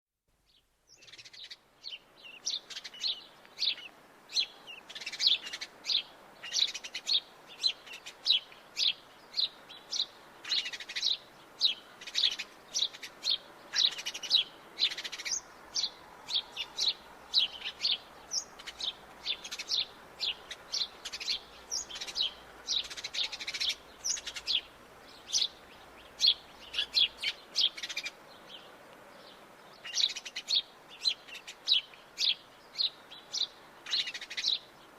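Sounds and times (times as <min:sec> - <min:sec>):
sparrows chirping: 0:00.5 - 0:34.9.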